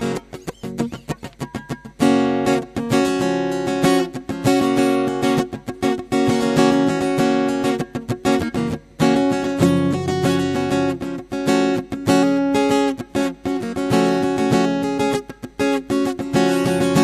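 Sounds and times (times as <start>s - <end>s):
acoustic guitar fingerstyle: 0.0s - 17.0s.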